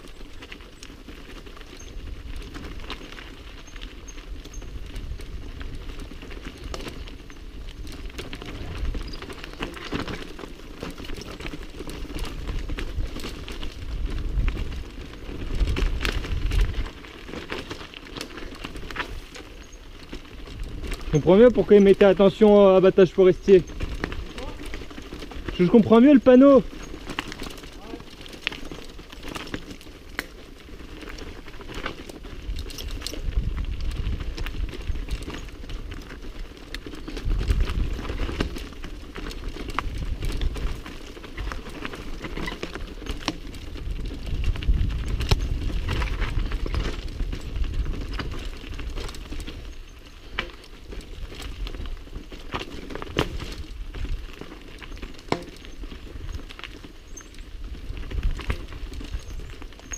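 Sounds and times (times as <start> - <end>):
bike rattling: 0.0 - 59.9
tyres crunching over stones: 0.0 - 59.9.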